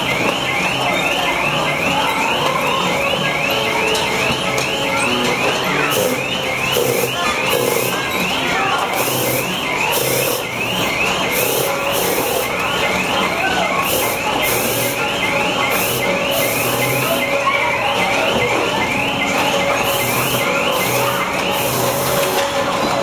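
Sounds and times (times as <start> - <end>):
carousel mechanical whine: 0.0 - 23.0.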